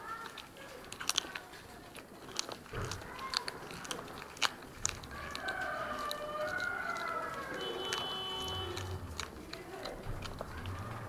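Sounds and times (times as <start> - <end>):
cat crunching bones: 0.0 - 11.0.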